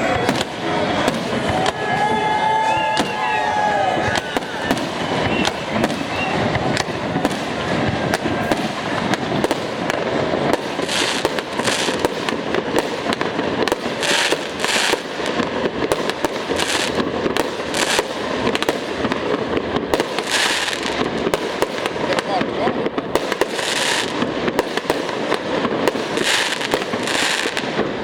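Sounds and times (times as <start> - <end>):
fireworks bangs and crackle: 0.0 - 28.0
fireworks hissing bursts: 0.0 - 28.0.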